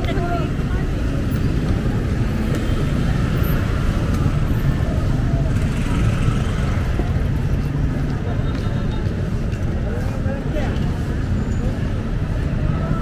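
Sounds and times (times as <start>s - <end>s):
low rumble of vehicle traffic: 0.0s - 13.0s.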